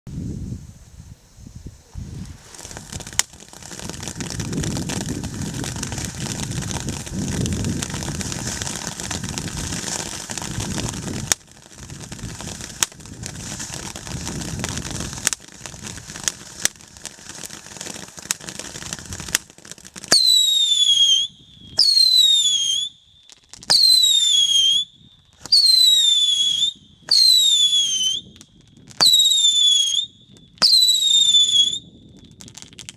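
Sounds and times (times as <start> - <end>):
fireworks hissing and crackling: 0.1 - 32.9
whistling firework shots: 1.8 - 32.8.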